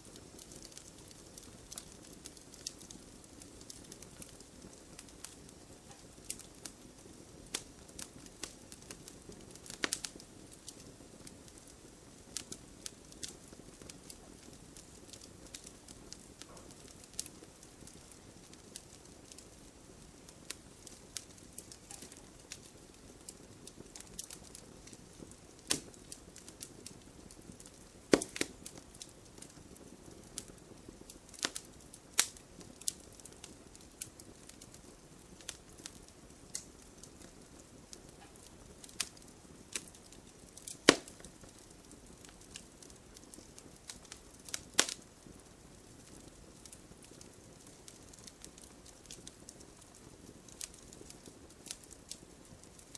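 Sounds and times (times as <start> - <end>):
burning hiss: 0.0 - 52.9
wood fire crackling: 0.0 - 52.9.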